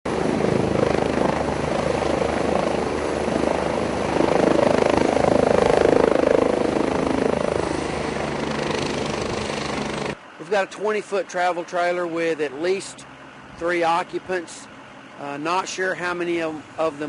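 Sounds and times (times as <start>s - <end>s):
helicopter rotor beating: 0.1s - 17.0s.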